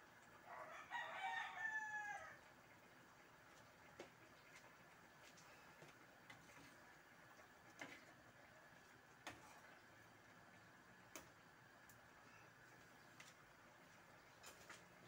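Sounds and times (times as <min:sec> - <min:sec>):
stew simmering hiss: 0:00.0 - 0:15.0.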